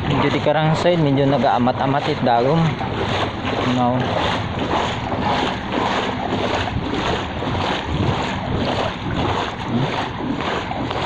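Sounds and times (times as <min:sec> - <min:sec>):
wading through water: 0:00.0 - 0:11.0
wind buffeting microphone: 0:00.0 - 0:11.0.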